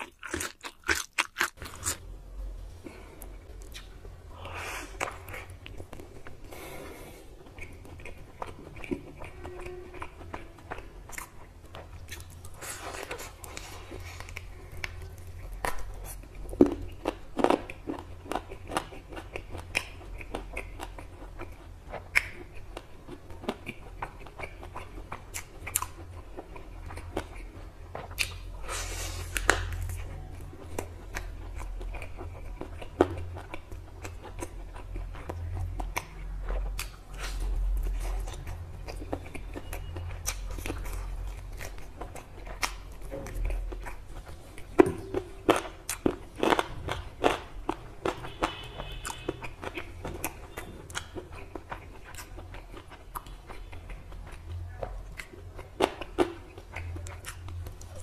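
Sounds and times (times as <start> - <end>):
person chewing crunchy chicken: 0.0 - 2.2, 2.8 - 58.0.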